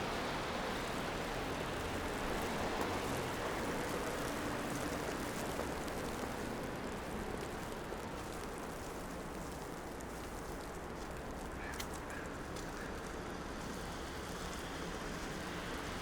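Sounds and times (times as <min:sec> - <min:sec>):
traffic on wet roads: 0:00.0 - 0:16.0.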